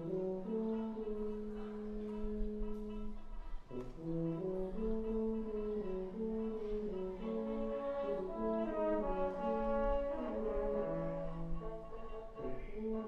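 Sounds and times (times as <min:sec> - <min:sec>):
brass quintet playing: 0:00.0 - 0:13.0.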